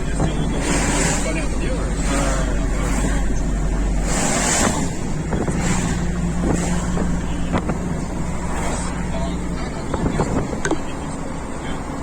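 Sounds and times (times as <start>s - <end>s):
wind noise: 0.0s - 10.7s
truck engine and road drone: 0.0s - 12.0s.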